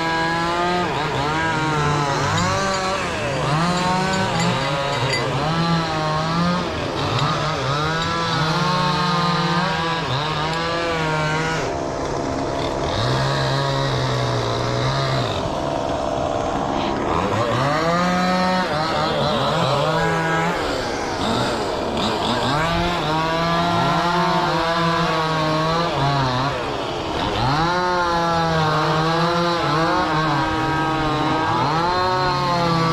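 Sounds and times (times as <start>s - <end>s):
chainsaw cutting: 0.0s - 32.9s.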